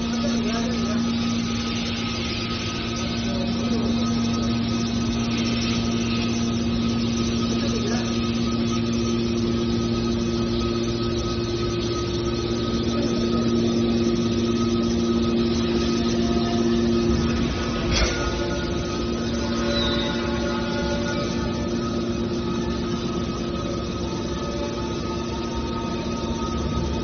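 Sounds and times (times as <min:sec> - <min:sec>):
baler motor humming: 0:00.0 - 0:27.0
higher hum tone: 0:00.0 - 0:27.0.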